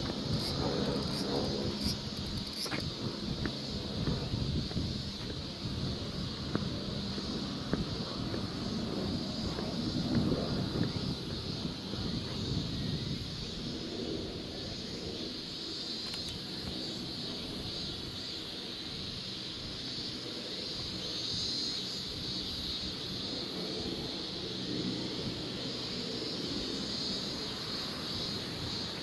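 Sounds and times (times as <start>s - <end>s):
wind rumbling on microphone: 0.0s - 28.8s
high-pitched insect chorus: 0.0s - 29.0s.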